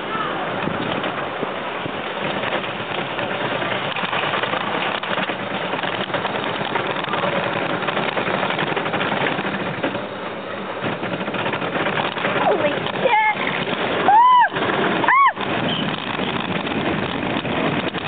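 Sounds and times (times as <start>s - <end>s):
coaster wheels rumbling on rails: 0.0s - 18.0s.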